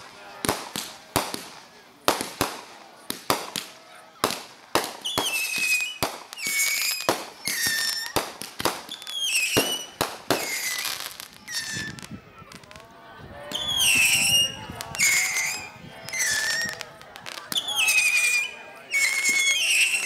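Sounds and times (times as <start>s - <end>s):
fireworks whistles falling: 0.0s - 12.6s, 13.5s - 20.0s
fireworks bangs: 0.0s - 20.0s.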